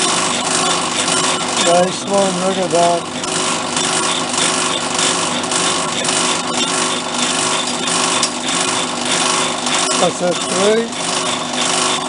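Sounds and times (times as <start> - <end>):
machine tool cutting metal: 0.0 - 12.0.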